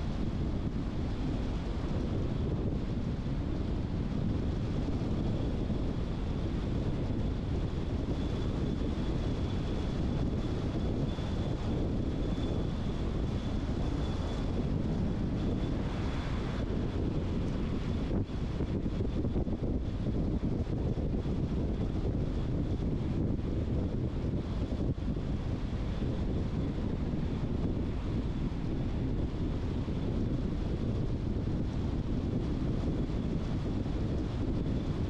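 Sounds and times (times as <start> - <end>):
car road and wind noise: 0.0 - 35.0.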